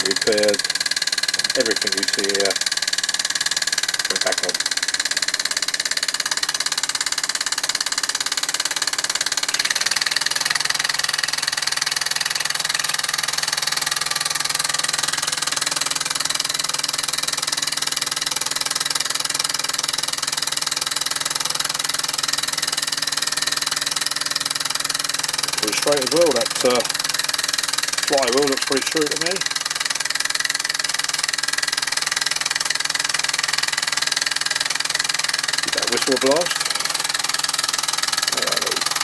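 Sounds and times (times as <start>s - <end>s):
steam engine chuffing: 0.0s - 39.0s.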